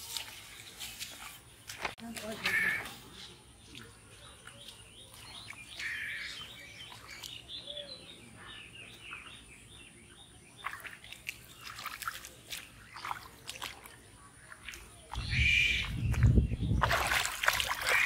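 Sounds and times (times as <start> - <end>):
bare feet splashing in water: 0.0 - 7.7, 10.5 - 18.0
birds chirping: 0.2 - 18.0.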